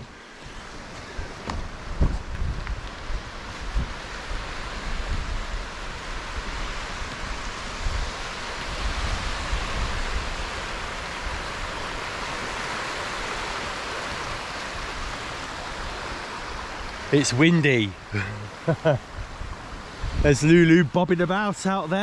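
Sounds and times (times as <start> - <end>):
wind buffeting microphone: 0.0 - 17.1, 18.4 - 20.9
strong gusty wind: 0.0 - 21.0
choppy waves on lake: 0.0 - 22.0.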